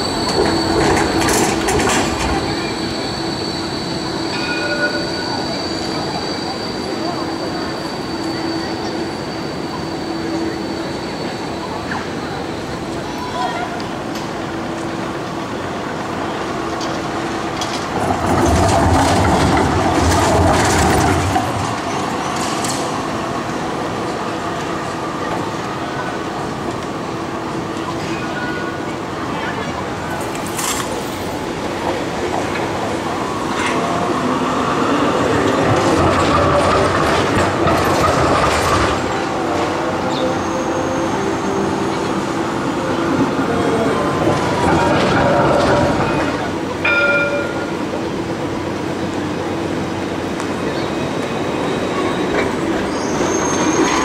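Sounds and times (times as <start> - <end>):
tram rolling rumble: 0.0 - 54.0.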